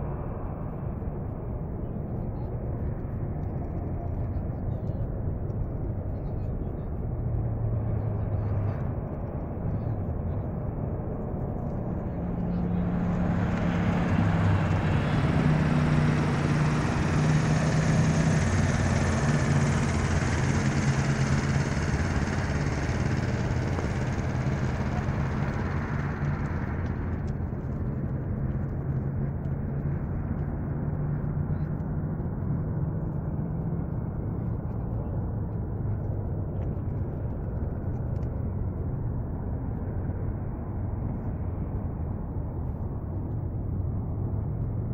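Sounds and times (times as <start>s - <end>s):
jet engine drone: 7.8s - 44.6s.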